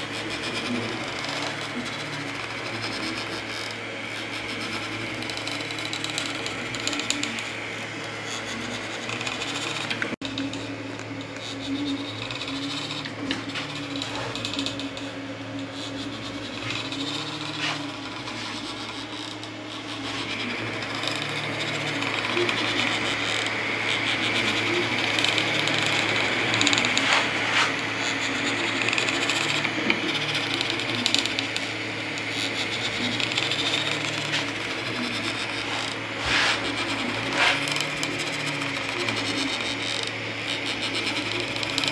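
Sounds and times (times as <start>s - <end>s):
cooling fans hissing: 0.0s - 41.9s
stepper motors humming: 0.0s - 41.9s.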